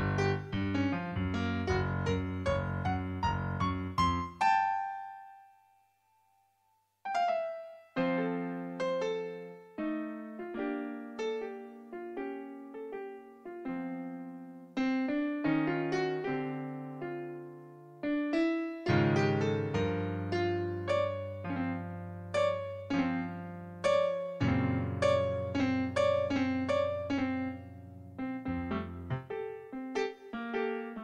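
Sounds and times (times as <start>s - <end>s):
slow piano melody: 0.0s - 31.0s.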